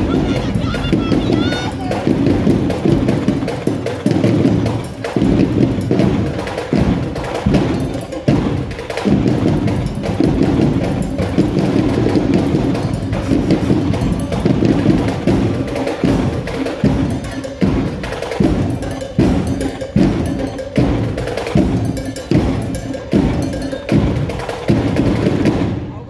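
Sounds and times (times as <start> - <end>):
drum line playing cadence: 0.0 - 26.0.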